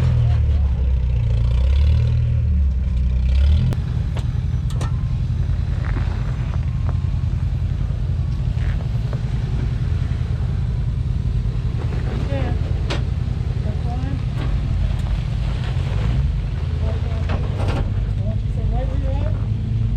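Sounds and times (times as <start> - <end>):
off-road vehicle engine rumbling: 0.0 - 19.9.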